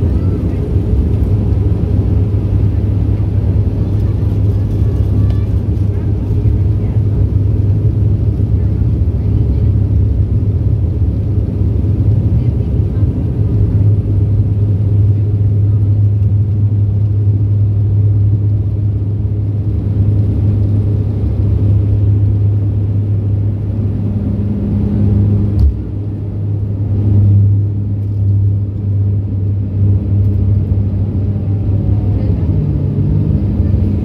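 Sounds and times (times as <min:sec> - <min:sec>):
propeller drone in cabin: 0:00.0 - 0:34.0.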